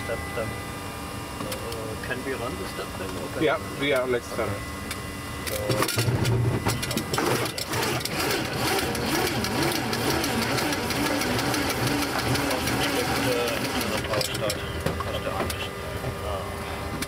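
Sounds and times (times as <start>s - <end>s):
wavering engine tone: 0.0s - 17.0s.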